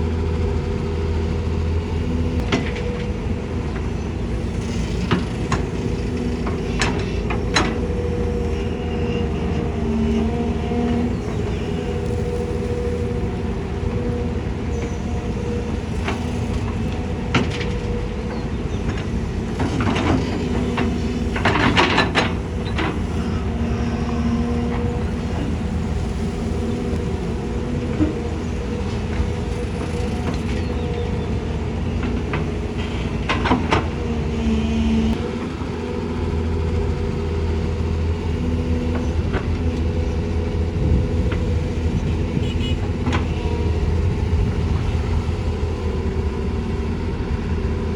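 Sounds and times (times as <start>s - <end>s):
heavy diesel machinery running: 0.0s - 47.9s.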